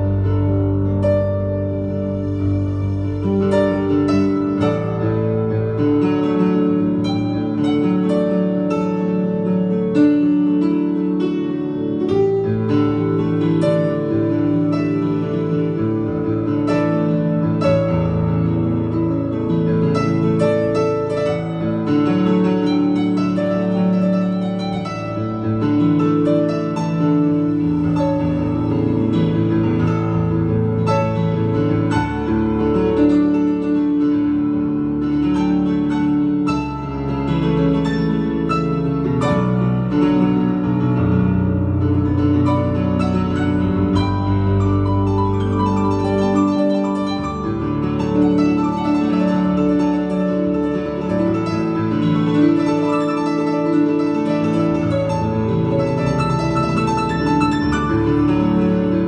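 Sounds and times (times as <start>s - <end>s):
electronic keyboard chords: 0.0s - 59.0s.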